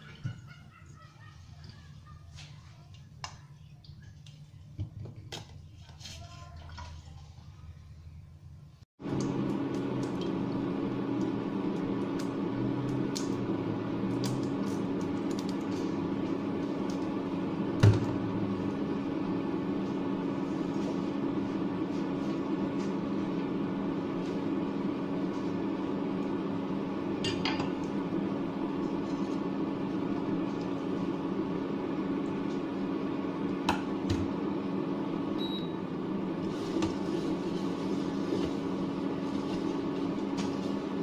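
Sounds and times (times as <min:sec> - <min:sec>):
fan noise: 0:00.0 - 0:41.0
induction cooktop electrical hum: 0:00.0 - 0:41.0.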